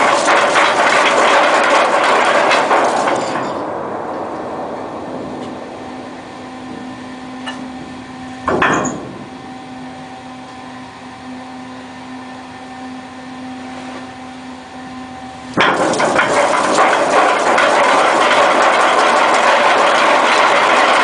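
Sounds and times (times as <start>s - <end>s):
ship deck machinery hum: 0.0s - 21.0s.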